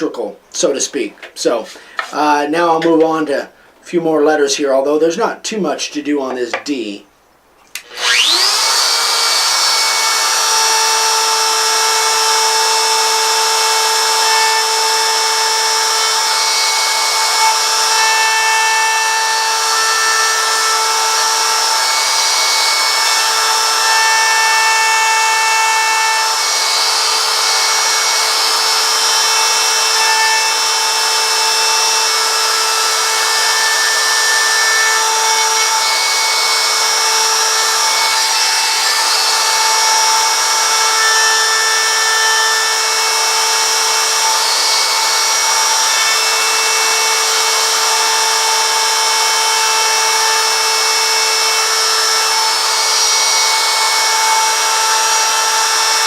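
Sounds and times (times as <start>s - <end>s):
rotary tool whining while carving wood: 7.8s - 56.0s.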